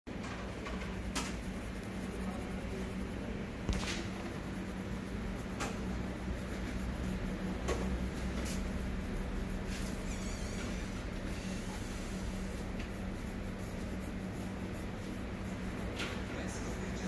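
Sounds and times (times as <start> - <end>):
fingers scratching scalp: 0.6 - 17.0
low hum: 0.6 - 17.0.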